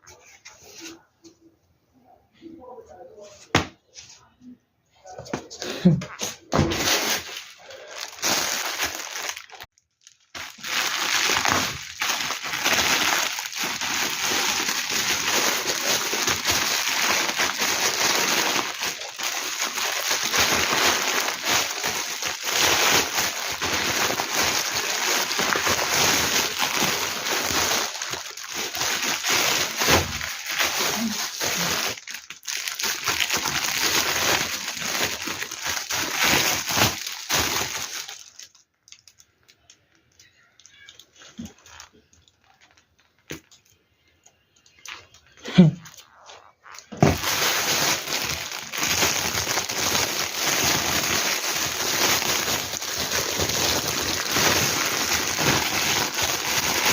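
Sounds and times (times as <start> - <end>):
plastic packaging crinkling: 6.2 - 56.9.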